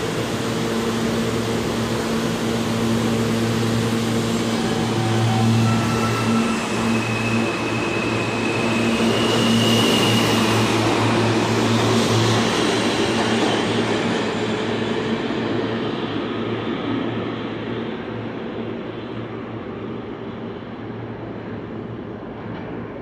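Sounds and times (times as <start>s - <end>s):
train cars rumbling on rails: 0.0s - 23.0s.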